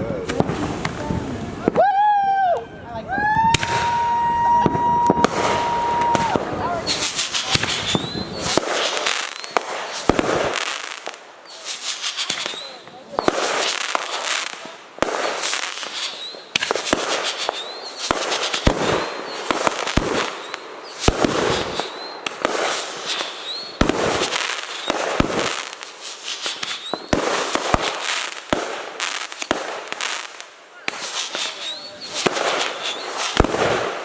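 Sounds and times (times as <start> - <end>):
fireworks bangs and crackling: 0.0 - 2.1, 3.2 - 34.0.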